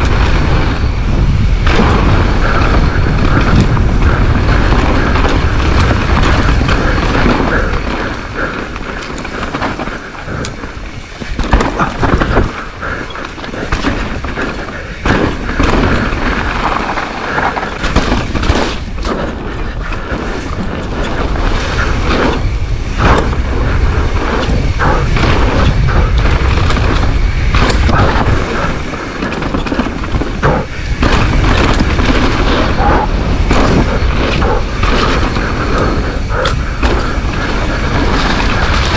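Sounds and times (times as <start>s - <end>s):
bike chain and frame rattling: 0.0s - 38.9s
tyres rolling over dirt: 0.0s - 38.9s
wind buffeting microphone: 0.0s - 38.9s.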